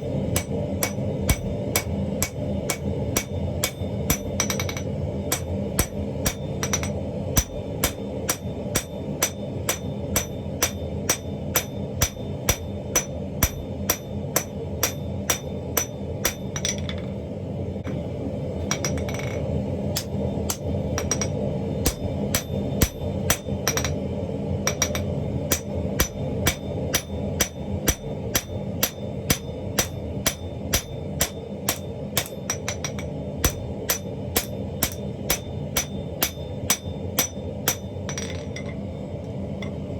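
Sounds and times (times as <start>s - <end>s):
hammer on hot steel: 0.0s - 17.2s, 18.6s - 38.9s.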